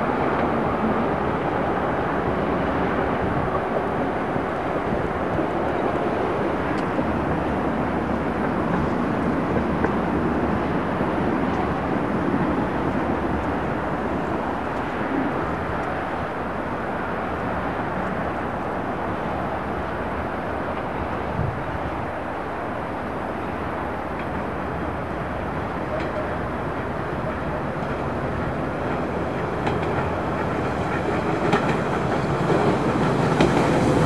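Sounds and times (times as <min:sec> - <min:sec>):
metro trains rumbling: 0:00.0 - 0:34.0.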